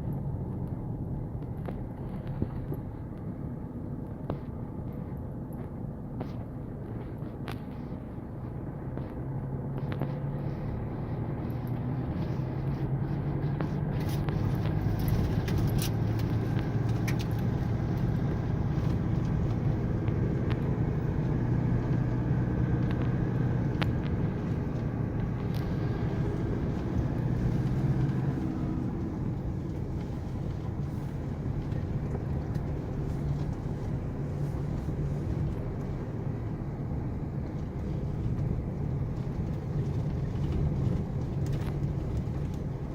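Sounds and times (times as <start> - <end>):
off-road vehicle engine running: 0.0 - 42.9.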